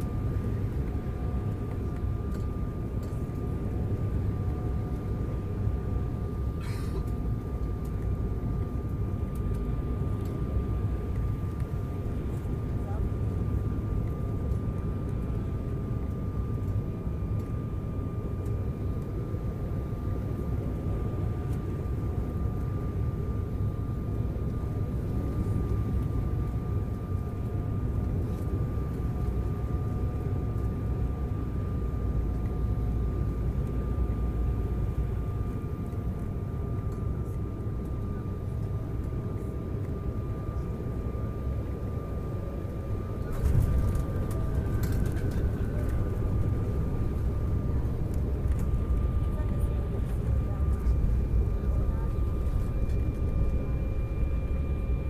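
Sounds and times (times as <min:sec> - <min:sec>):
engine and airflow rumble: 0:00.0 - 0:55.0
thin steady whine: 0:00.0 - 0:55.0.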